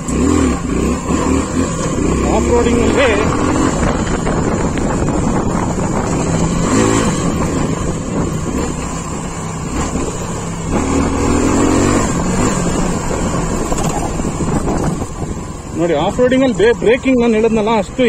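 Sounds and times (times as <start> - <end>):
motorcycle engine under throttle: 0.0 - 18.0.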